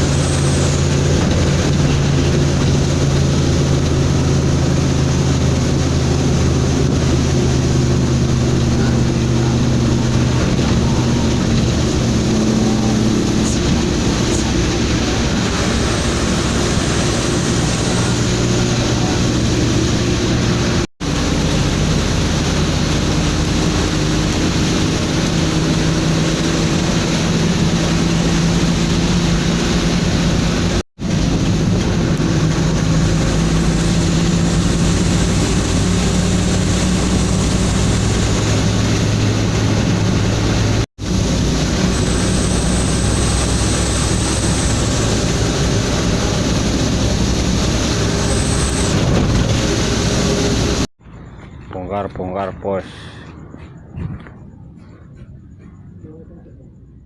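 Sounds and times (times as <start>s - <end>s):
road noise: 0.0s - 57.0s
truck engine running: 0.0s - 57.0s.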